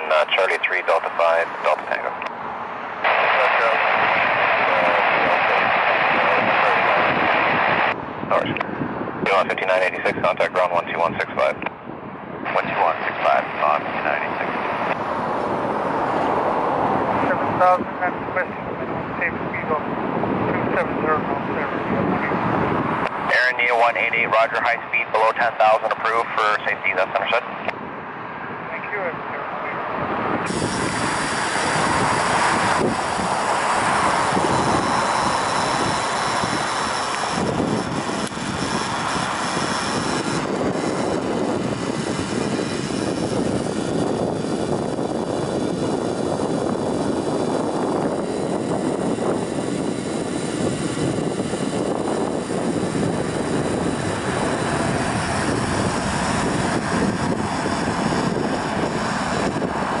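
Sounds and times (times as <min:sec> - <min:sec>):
jet engines running: 0:00.0 - 1:00.0.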